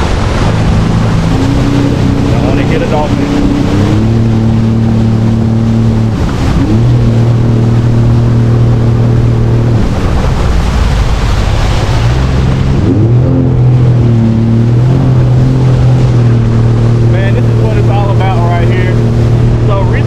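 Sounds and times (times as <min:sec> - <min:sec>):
jet ski engine running: 0:00.0 - 0:20.0
water and wind rushing: 0:00.0 - 0:20.0.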